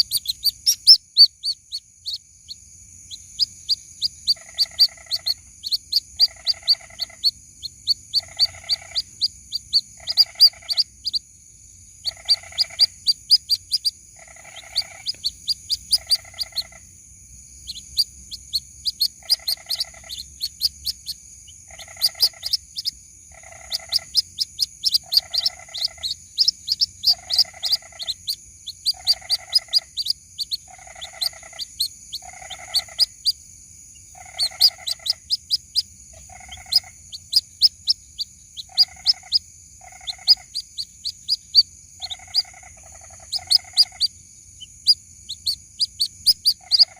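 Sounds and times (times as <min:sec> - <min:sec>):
high falling bird chick cheeps: 0:00.0 - 0:46.9.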